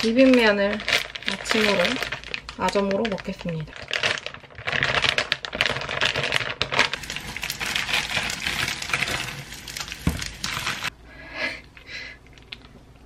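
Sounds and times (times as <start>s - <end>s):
plastic bag crinkling: 0.0s - 10.9s
sauce packet squelching: 0.0s - 10.9s.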